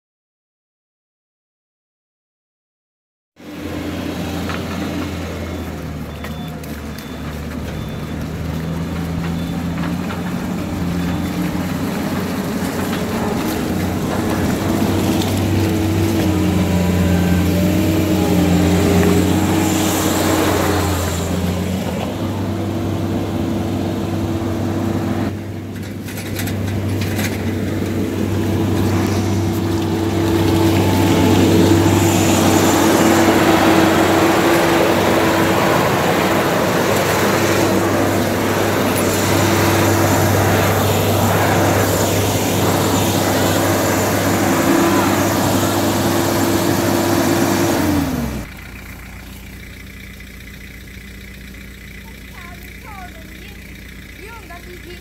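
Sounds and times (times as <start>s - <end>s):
diesel engine drone with grinding: 3.4s - 55.0s.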